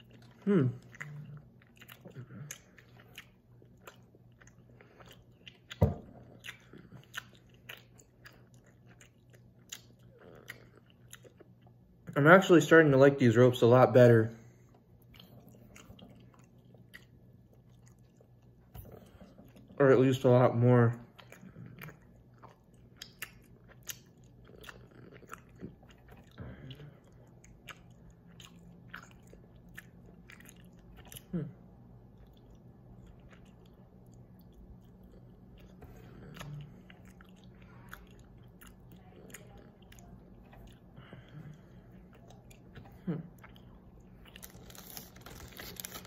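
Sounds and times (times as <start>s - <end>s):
person chewing candy: 0.0s - 12.2s, 14.5s - 19.8s, 21.0s - 46.0s.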